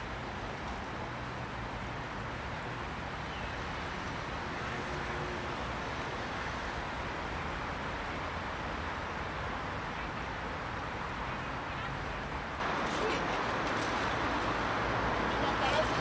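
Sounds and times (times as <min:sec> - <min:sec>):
city street ambience: 0:00.0 - 0:16.0.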